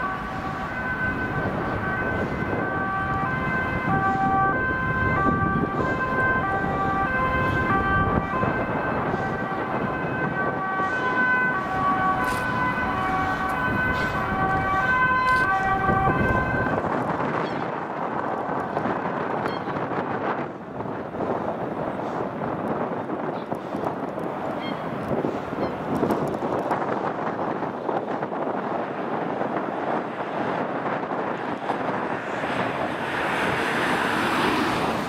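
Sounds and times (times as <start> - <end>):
road traffic noise: 0.0 - 35.0
two-tone emergency siren: 0.0 - 35.0.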